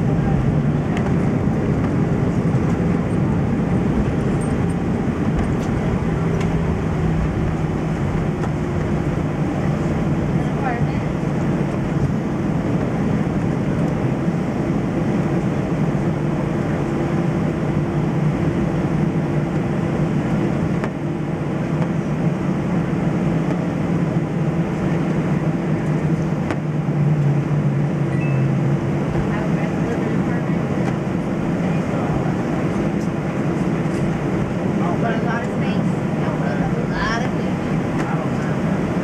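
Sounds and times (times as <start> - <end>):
airliner cabin engine hum: 0.0 - 39.0.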